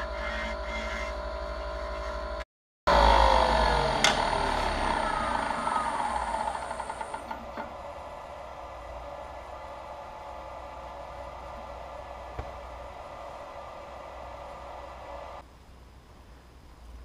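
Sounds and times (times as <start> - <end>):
lathe motor whine spinning down: 0.0 - 15.4
turning tool cutting wood: 0.0 - 15.4
wood lathe spinning: 0.0 - 15.4.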